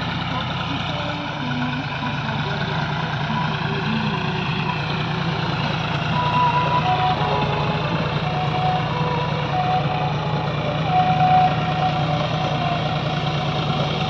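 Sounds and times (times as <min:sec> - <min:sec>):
tractor diesel engine running: 0:00.0 - 0:14.0
thin high tone: 0:01.2 - 0:14.0.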